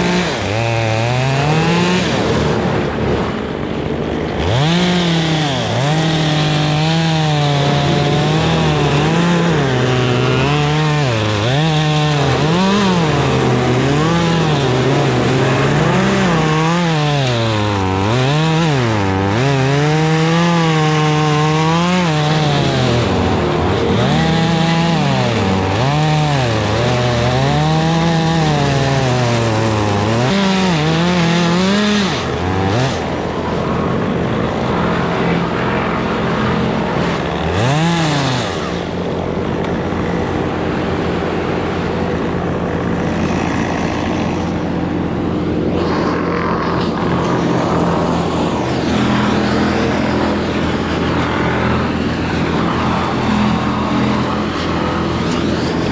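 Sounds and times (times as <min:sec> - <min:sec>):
chainsaw revving and cutting: 0:00.0 - 0:55.9.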